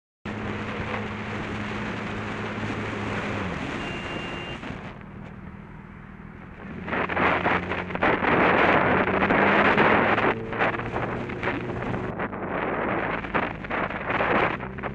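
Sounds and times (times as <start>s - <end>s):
motorcycle engine running: 0.3s - 14.9s
wind buffeting microphone: 0.3s - 14.9s.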